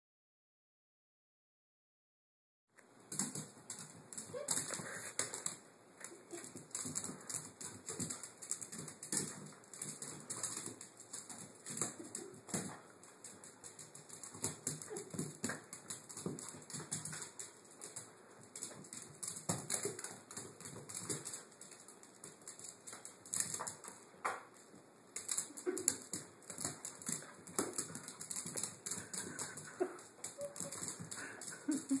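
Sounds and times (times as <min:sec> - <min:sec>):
puppy claws clicking on tiles: 0:03.1 - 0:32.0.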